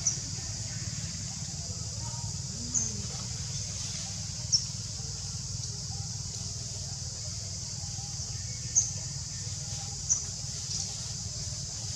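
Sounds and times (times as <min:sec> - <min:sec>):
high-pitched hiss: 0:00.0 - 0:11.9.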